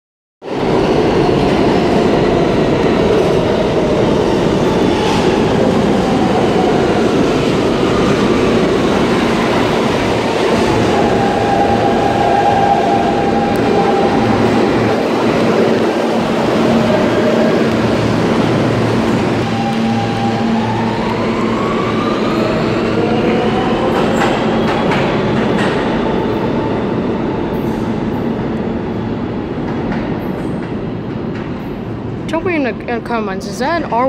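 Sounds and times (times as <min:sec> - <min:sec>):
subway train running past: 0:00.4 - 0:34.0.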